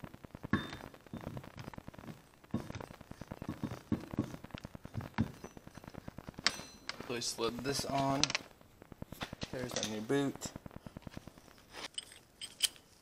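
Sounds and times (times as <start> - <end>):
small metal clicks and rubbing: 1.4 - 13.0.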